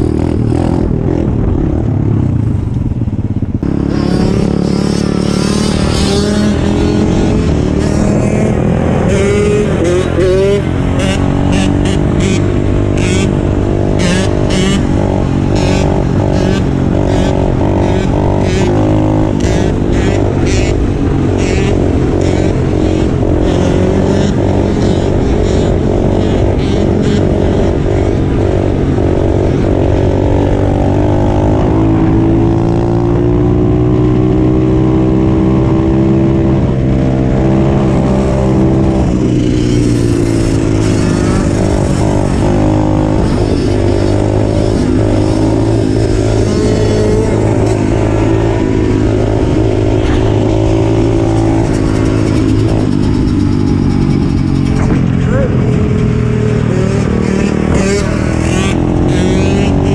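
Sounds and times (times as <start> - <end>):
dirt bike engines running: 0.0 - 59.9.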